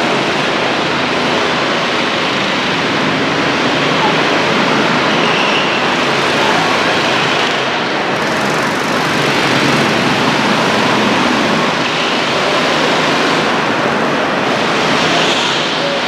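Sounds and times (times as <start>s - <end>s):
go-kart engines echoing: 0.0s - 16.0s.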